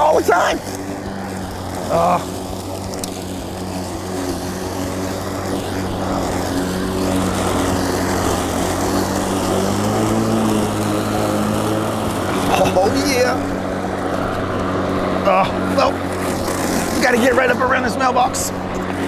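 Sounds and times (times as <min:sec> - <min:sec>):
electric lawn mower cutting grass: 0:00.0 - 0:19.0.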